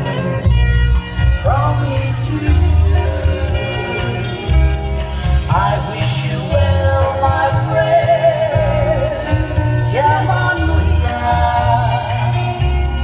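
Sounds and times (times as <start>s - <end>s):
pulsing bass: 0.0s - 13.0s
voice holding wavering notes: 0.0s - 13.0s.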